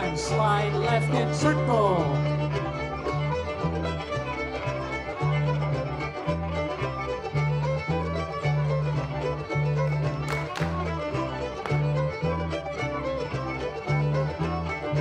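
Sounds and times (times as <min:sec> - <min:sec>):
bass notes: 0:00.0 - 0:15.0
fiddle melody: 0:00.0 - 0:15.0.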